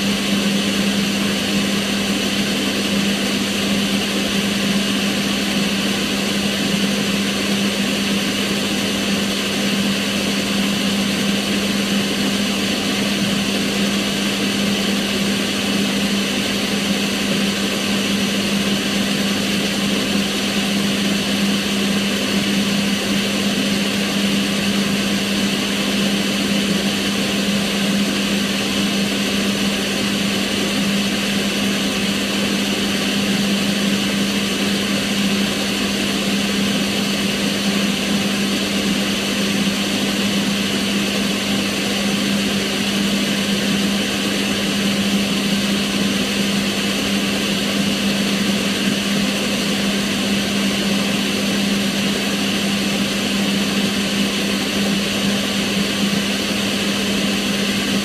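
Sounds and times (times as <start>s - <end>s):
extractor fan rushing air: 0.0s - 58.0s
fan high whine: 0.0s - 58.0s.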